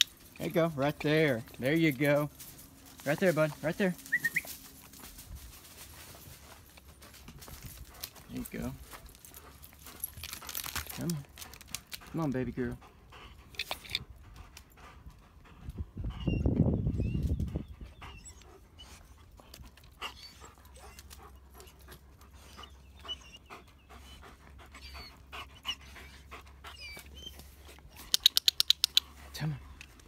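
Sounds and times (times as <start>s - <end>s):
dogs panting: 0.0s - 30.0s.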